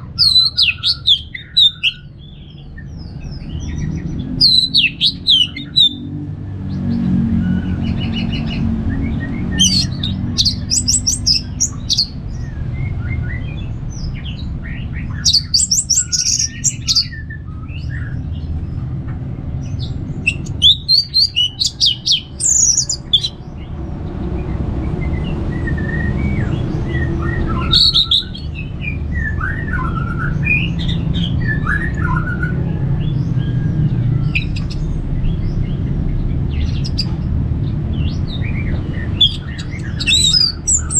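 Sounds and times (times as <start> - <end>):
thrush singing: 0.0 - 2.2, 3.2 - 18.6, 19.8 - 35.1, 36.6 - 40.9
quiet bird twittering: 0.0 - 23.8, 24.4 - 37.2, 37.9 - 40.9.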